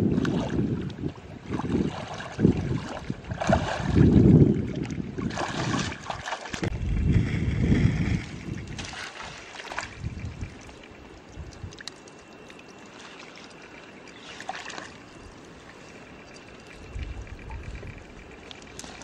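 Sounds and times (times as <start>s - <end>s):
river water trickling: 0.0s - 19.0s.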